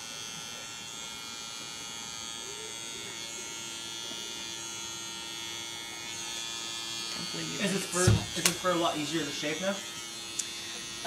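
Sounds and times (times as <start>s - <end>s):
electric hair clippers buzzing: 0.0s - 11.0s.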